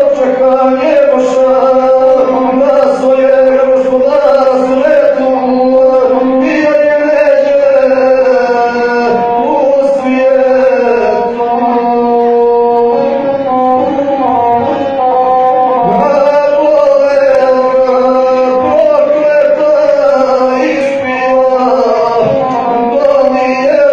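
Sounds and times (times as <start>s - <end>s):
man chanting verse: 0.0s - 23.9s.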